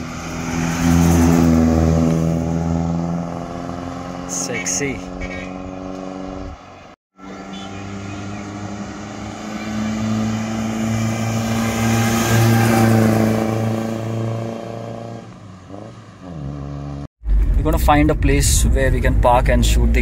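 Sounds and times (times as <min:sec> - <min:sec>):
car engine and exhaust passing: 0:00.0 - 0:20.0.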